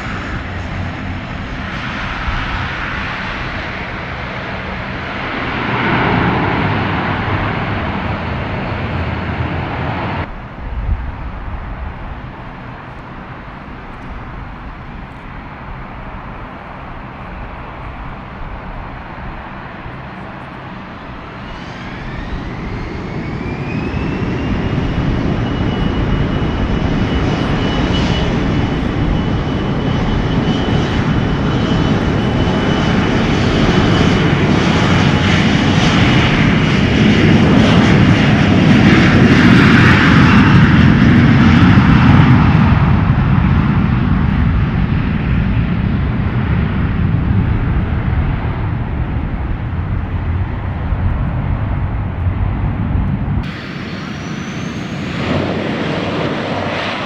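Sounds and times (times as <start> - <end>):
deep engine rumble: 0.0 - 57.0
jet engine whine: 0.0 - 57.0.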